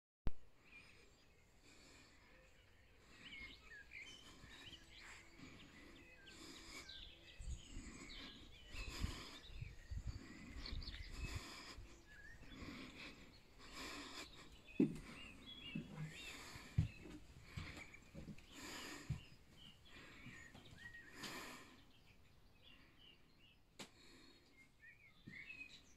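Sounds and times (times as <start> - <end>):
birds chirping and singing: 0.7 - 25.9.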